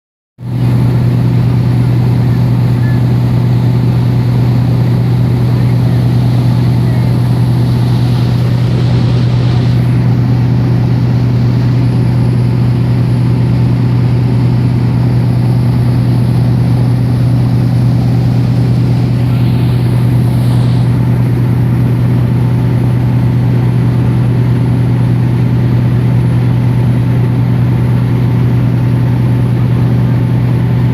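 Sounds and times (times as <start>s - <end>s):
boat engine droning: 0.4s - 30.9s.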